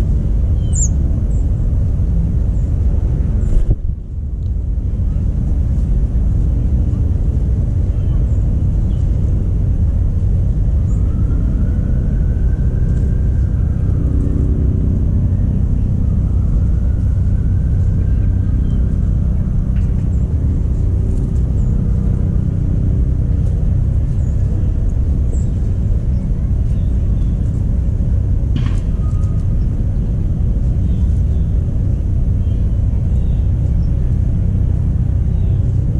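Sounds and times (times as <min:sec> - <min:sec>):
loud low rumble: 0:00.0 - 0:35.9.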